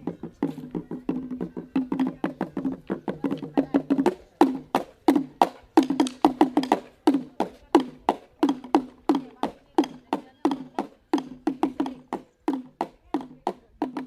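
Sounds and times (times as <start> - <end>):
struck or plucked instrumental music: 0.0 - 14.0.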